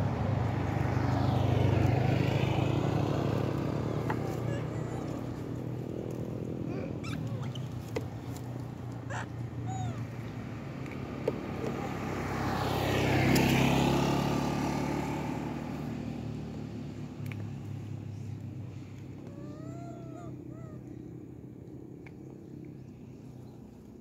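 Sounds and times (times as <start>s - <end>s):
low engine hum: 0.0s - 24.0s
road vehicle passing: 0.0s - 24.0s.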